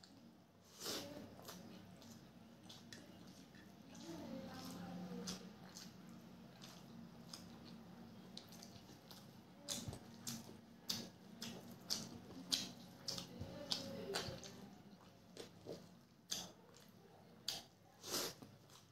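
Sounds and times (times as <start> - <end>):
wet eating squishing and smacking: 0.0 - 18.9.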